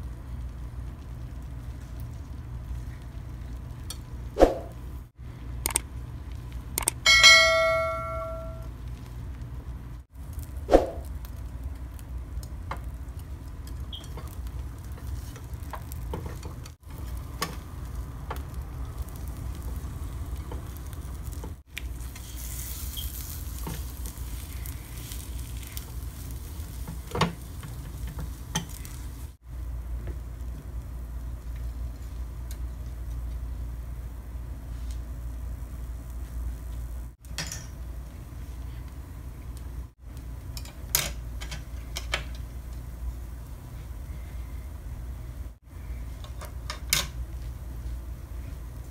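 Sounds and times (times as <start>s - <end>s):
egg and bread frying: 0.0s - 7.9s, 8.6s - 48.9s.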